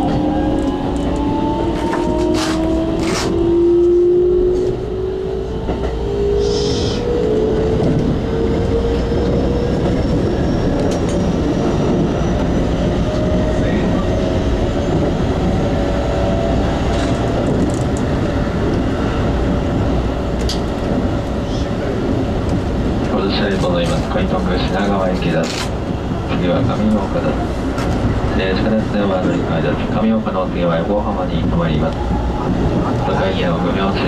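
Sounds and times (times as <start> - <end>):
wheels rumbling on rail: 0.0 - 34.0.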